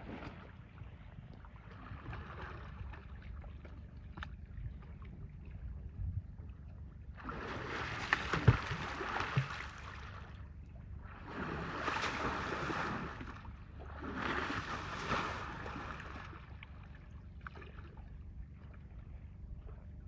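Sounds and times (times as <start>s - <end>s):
low wind rumble: 0.0s - 20.0s
water splashing and sloshing: 0.0s - 20.0s.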